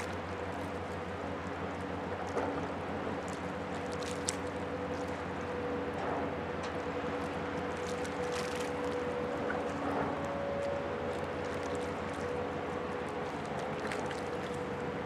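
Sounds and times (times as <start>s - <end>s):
ship diesel engines droning: 0.0s - 15.0s
water wash: 0.0s - 15.0s.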